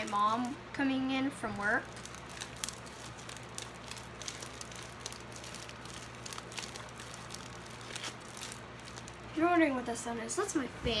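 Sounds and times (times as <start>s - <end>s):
slime squishing and crackling: 0.0s - 9.9s
electric fan humming: 0.0s - 11.0s.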